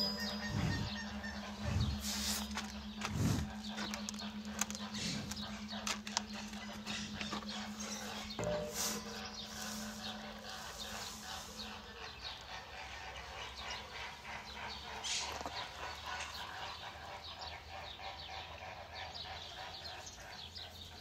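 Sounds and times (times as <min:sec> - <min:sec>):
steady low hum: 0:00.0 - 0:18.9
small birds chirping: 0:00.0 - 0:21.0.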